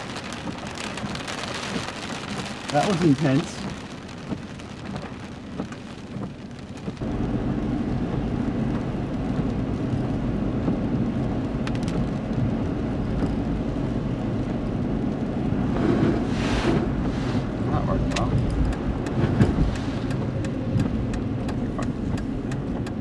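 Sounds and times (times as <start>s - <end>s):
rain hissing on a car: 0.0s - 23.0s.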